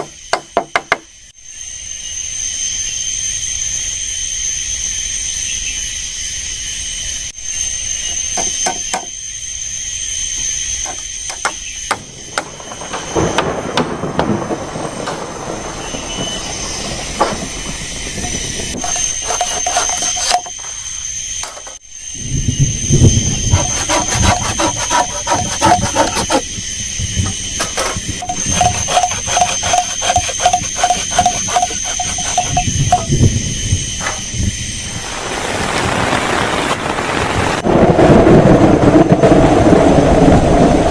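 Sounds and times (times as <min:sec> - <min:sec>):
high-pitched insect drone: 0:00.0 - 0:35.5.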